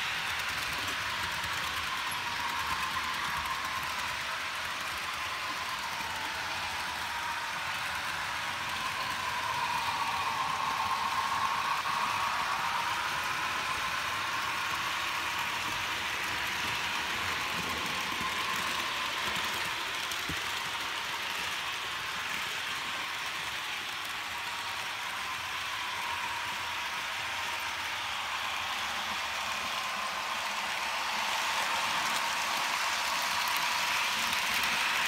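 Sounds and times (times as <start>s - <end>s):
model train motor whine: 0.0s - 35.0s
wheels hissing on track: 0.0s - 35.0s.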